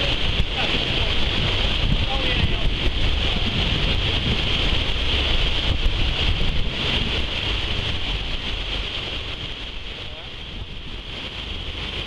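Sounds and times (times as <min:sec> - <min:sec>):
water rushing in boat wake: 0:00.0 - 0:12.0
wind buffeting microphone: 0:00.0 - 0:12.0.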